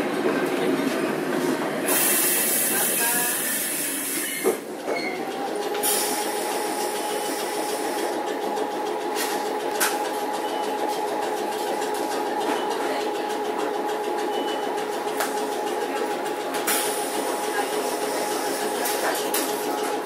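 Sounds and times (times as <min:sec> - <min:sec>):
tram rolling with humming tones: 0:00.0 - 0:20.0.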